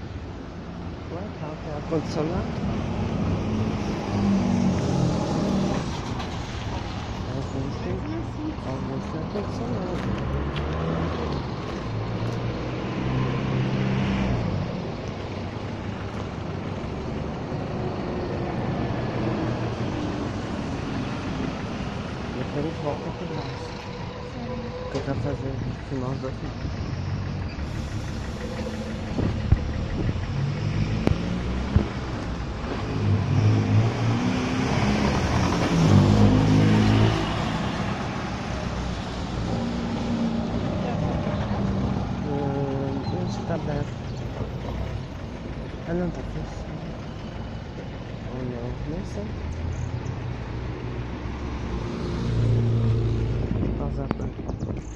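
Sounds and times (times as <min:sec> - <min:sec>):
steady road noise: 0:00.0 - 0:54.9
vehicle engine humming: 0:00.0 - 0:54.9.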